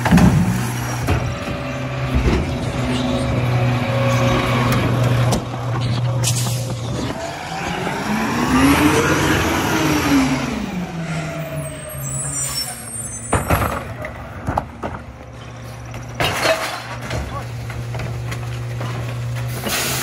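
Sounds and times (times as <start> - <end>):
garbage truck driving past: 0.0 - 20.0.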